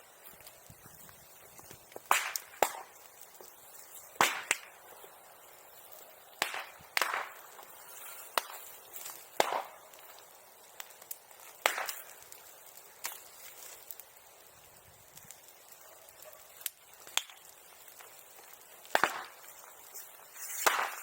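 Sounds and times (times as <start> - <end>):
bonfire crackling: 0.0 - 21.0
sharp pops and cracks: 0.0 - 21.0.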